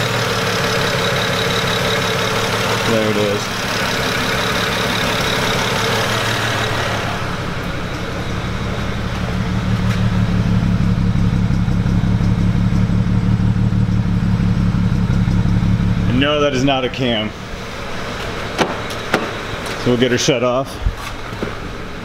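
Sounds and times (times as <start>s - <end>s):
low pulsing exhaust note: 0.0s - 21.0s
car engine idling with misfire: 0.0s - 22.0s.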